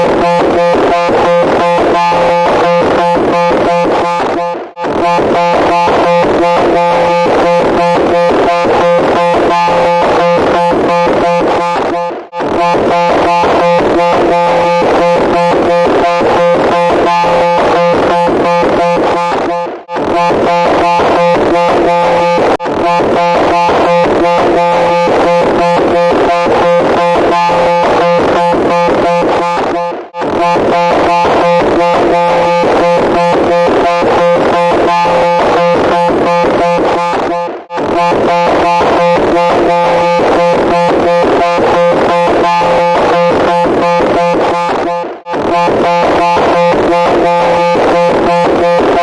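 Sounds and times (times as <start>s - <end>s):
pulsing electronic buzzing: 0.0s - 49.0s.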